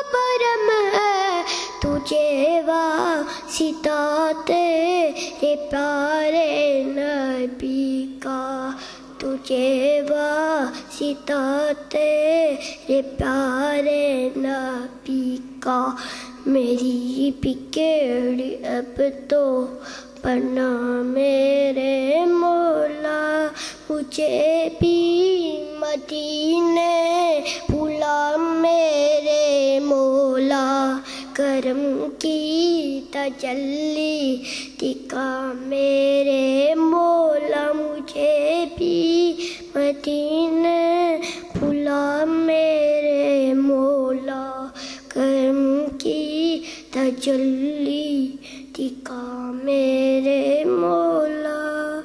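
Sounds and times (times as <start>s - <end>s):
boy singing solo: 0.0s - 52.0s.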